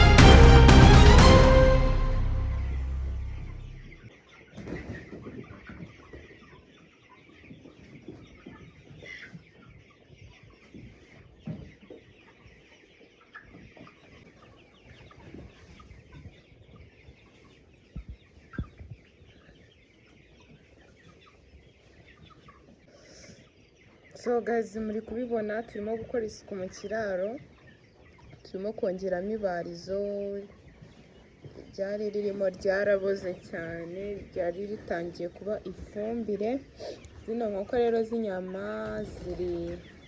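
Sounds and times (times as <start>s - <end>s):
chickens clucking: 4.3s - 40.0s.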